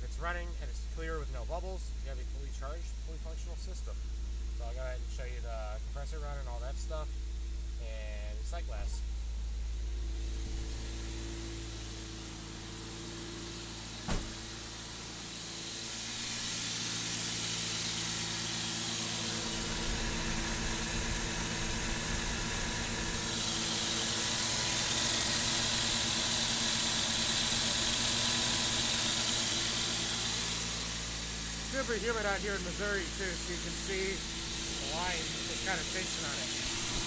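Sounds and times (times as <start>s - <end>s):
engine running at raised idle: 0.0s - 37.0s
engine bay hiss: 0.1s - 37.0s.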